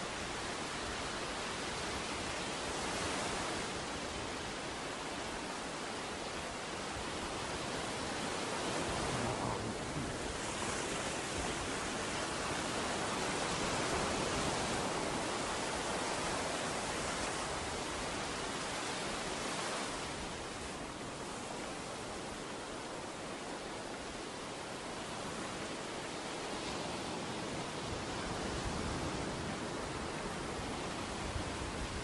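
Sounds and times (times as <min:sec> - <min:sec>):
waves breaking on beach: 0:00.0 - 0:32.0.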